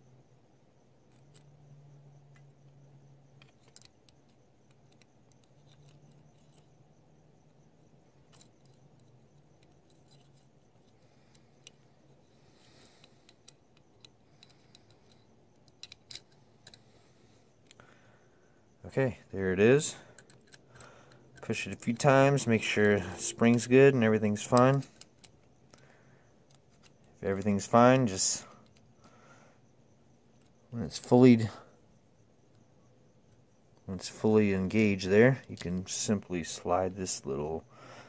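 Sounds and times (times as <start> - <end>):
faint low hum: 0.0 - 38.0
faint metal parts clicking: 1.0 - 37.6.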